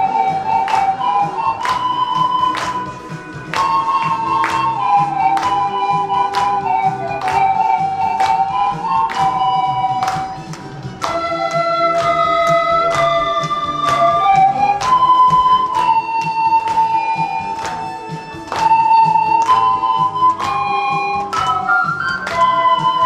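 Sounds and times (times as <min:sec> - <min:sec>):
backing track beat: 0:00.0 - 0:23.0
pan flute ensemble melody: 0:00.0 - 0:23.0.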